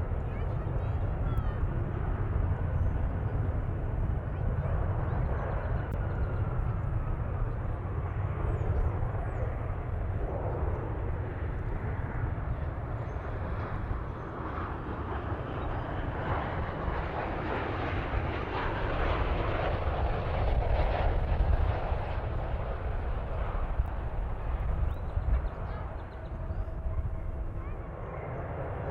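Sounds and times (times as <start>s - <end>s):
jet airliner passing: 0.0s - 28.9s.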